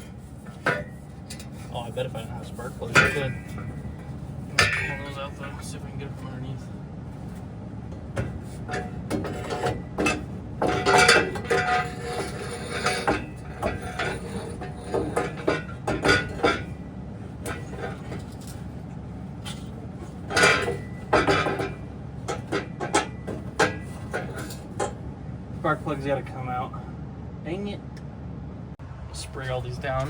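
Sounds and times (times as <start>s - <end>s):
metal clanking and knocking: 0.0s - 25.1s.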